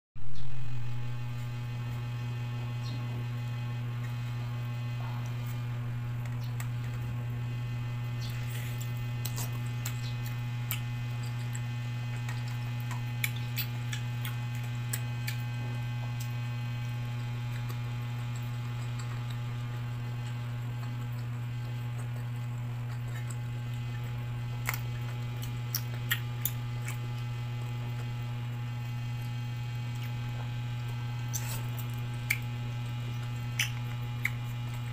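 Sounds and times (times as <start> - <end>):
low electrical hum: 0.2 - 34.9
wet mouth sounds of eating: 2.7 - 34.9.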